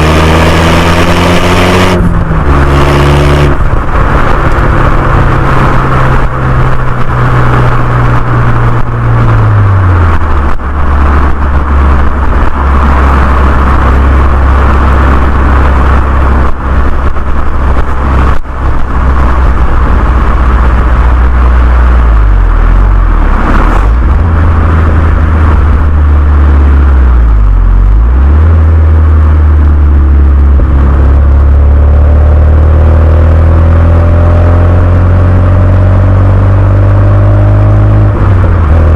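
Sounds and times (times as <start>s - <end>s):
car engine deep exhaust drone: 0.0s - 38.9s.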